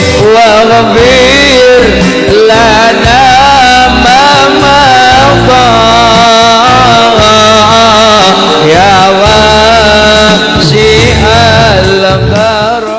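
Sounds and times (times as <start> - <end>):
ornamented melody line: 0.0 - 12.9
pulsing bass: 0.0 - 12.9.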